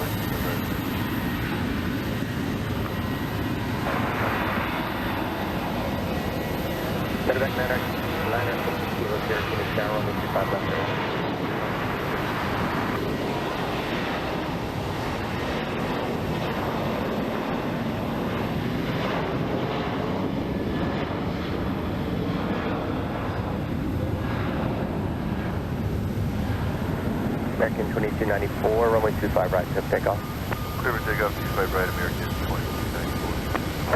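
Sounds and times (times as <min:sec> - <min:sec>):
jet engines at takeoff power: 0:00.0 - 0:33.9.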